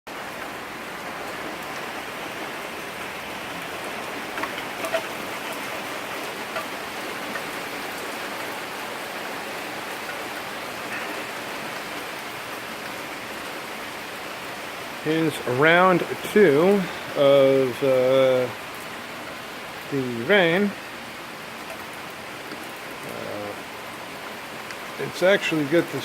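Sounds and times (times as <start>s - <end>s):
steady rain hiss: 0.1s - 26.0s.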